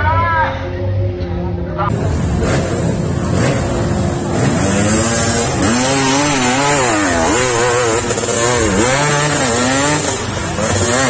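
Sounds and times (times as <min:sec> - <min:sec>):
dirt bike engine revving: 0:01.9 - 0:11.0.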